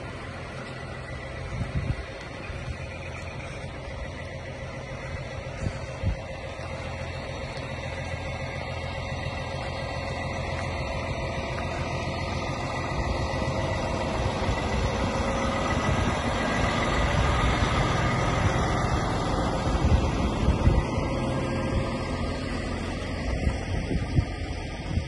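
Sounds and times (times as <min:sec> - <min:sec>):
truck diesel engine passing: 0:00.0 - 0:25.0.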